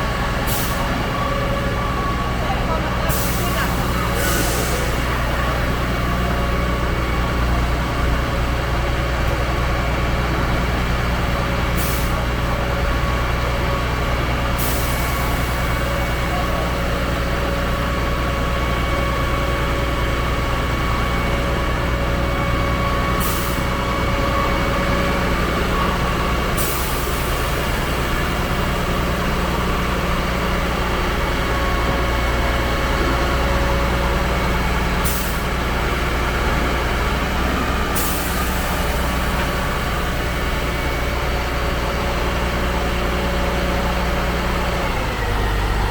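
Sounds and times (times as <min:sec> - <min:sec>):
concrete pump truck engine running: 0:00.0 - 0:45.9.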